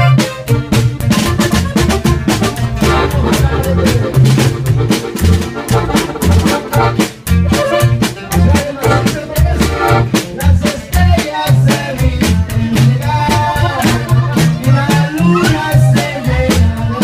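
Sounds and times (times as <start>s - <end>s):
button accordion melody: 0.0s - 10.8s, 12.8s - 17.0s
steady drum beat: 0.0s - 17.0s
upright bass notes: 0.0s - 17.0s.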